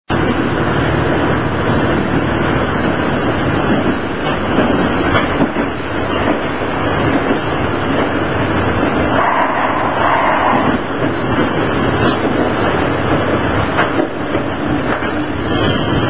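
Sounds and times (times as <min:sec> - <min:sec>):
railcar engine and wheels rumbling: 0:00.1 - 0:16.0.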